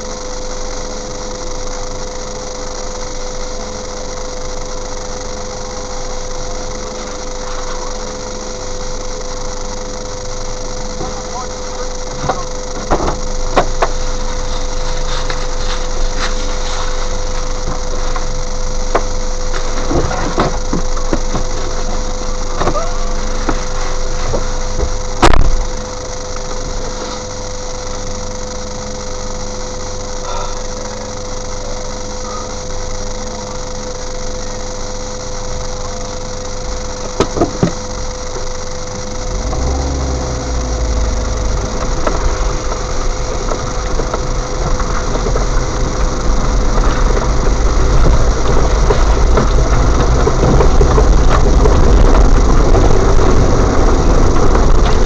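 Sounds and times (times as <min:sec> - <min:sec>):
engine rumble pulling away: 0:00.0 - 0:55.0
steady hum: 0:00.0 - 0:55.0
vehicle engine idling: 0:00.0 - 0:55.0.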